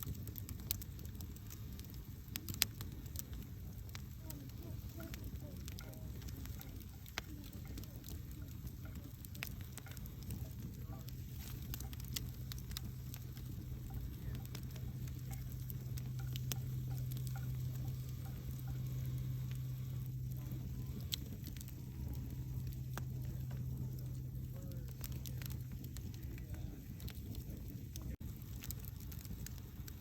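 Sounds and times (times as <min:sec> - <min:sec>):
campfire crackling: 0:00.0 - 0:30.0
low steady rumble: 0:00.0 - 0:30.0
sharp pops and snaps: 0:00.0 - 0:30.0.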